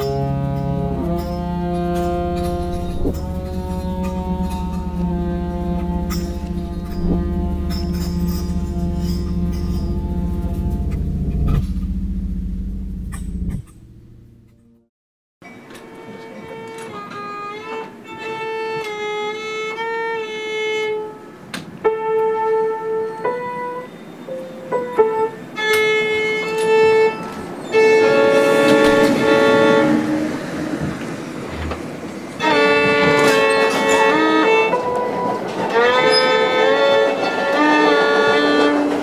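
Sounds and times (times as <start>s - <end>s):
solo violin long bowed notes: 0.0s - 13.4s, 15.7s - 39.0s.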